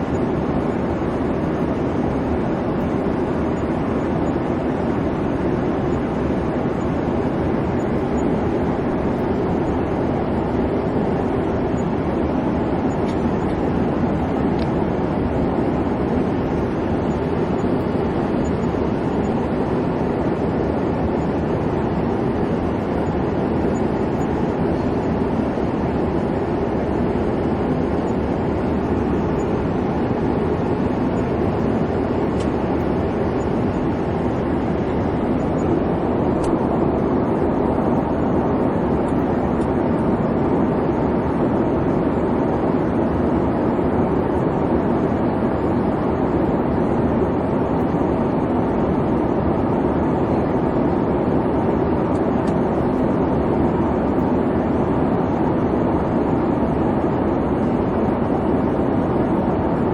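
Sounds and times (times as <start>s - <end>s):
airliner cabin engine hum: 0.0s - 59.9s.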